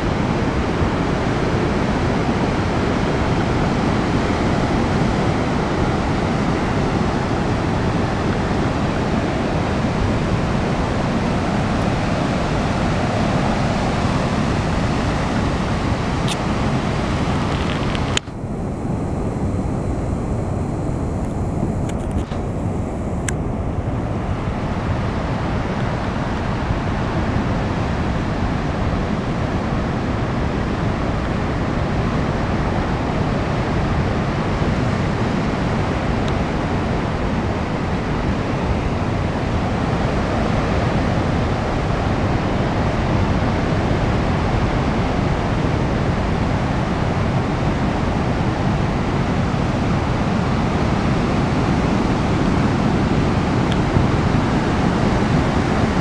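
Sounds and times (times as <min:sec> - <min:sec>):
surf washing over sand and rocks: 0:00.0 - 0:56.0.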